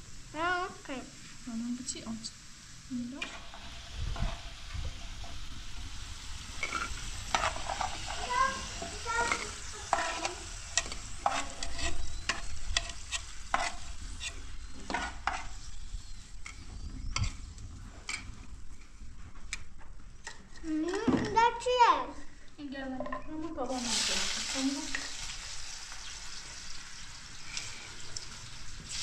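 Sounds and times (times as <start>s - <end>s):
potato sticks sizzling in oil: 0.0s - 18.9s, 23.4s - 29.0s.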